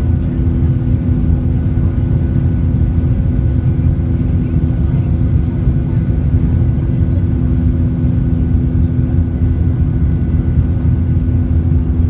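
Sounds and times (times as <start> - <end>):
airplane engines rumbling: 0.0 - 12.0.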